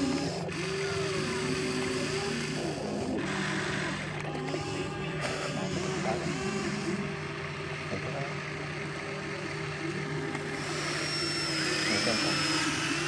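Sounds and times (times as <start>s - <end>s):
excavator motor humming: 0.0s - 13.0s.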